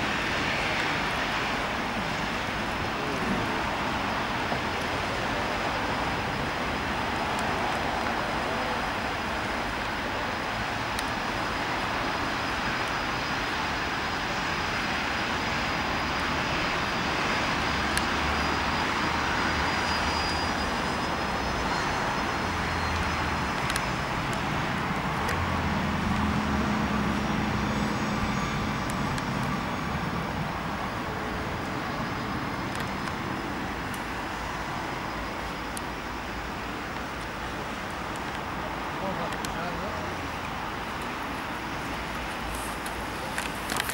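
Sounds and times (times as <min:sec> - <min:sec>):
jet engine roar: 0:00.0 - 0:36.0
high jet whine: 0:00.0 - 0:43.9.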